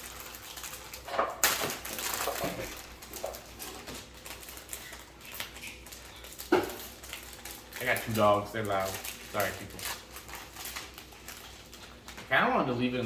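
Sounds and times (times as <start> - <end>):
plastic bags rustling and clicking: 0.0 - 13.0.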